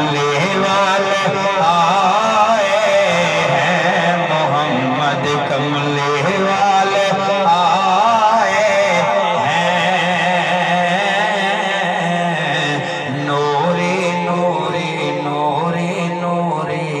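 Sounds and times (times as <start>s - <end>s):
man singing through microphone: 0.0s - 17.0s.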